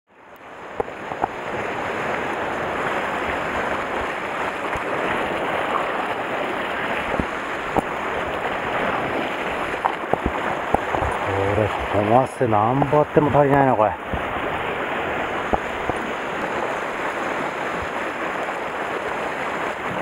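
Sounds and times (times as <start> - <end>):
surf on rocky shore: 0.1 - 20.0
wind on microphone: 0.6 - 20.0.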